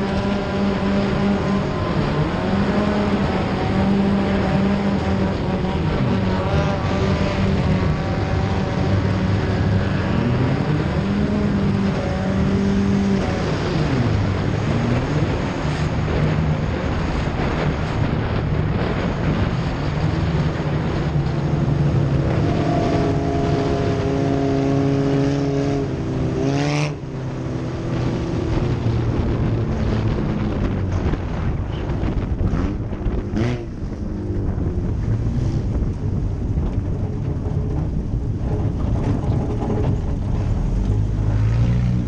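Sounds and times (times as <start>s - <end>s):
race car engine revving: 0.0s - 42.0s
wind rushing over microphone: 0.0s - 42.0s.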